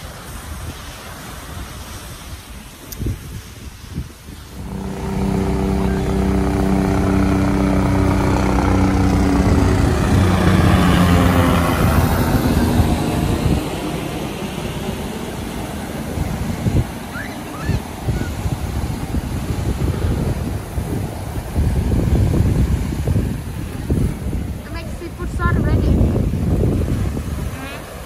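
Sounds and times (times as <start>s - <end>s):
surf washing: 0.0s - 28.0s
passing engine hum: 4.5s - 28.0s.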